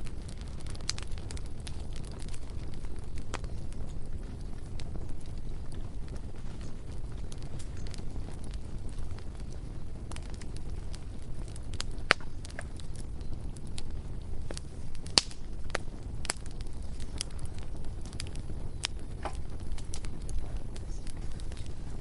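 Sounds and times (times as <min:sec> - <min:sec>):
bonfire crackling and popping: 0:00.0 - 0:22.0
low fire rumble: 0:00.0 - 0:22.0.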